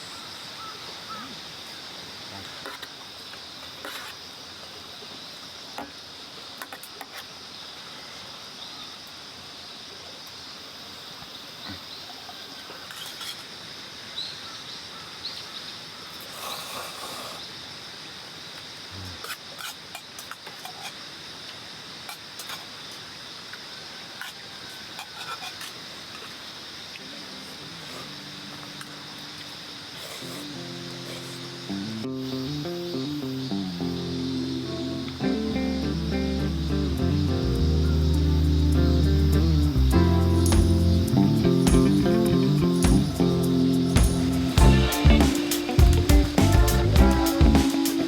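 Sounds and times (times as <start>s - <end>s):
crickets chirring: 0.0s - 48.0s.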